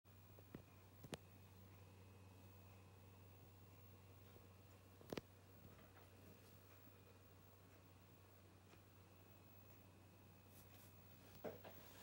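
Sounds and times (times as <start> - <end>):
faint low hum: 0.1 - 12.0.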